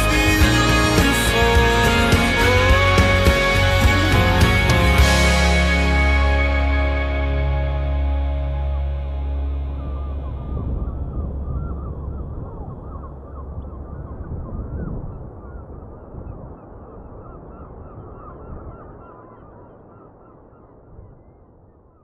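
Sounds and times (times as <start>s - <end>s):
low rumble: 0.0s - 18.2s.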